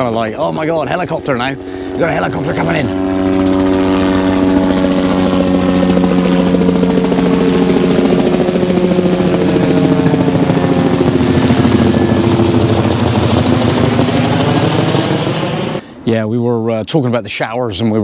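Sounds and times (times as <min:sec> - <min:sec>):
helicopter engine drone: 0:00.0 - 0:16.3
helicopter rotor beating: 0:00.0 - 0:16.3.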